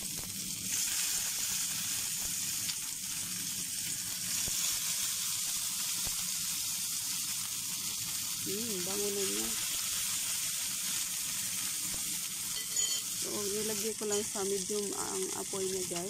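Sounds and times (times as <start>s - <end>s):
chicken sizzling on a grill pan: 0.0s - 16.0s.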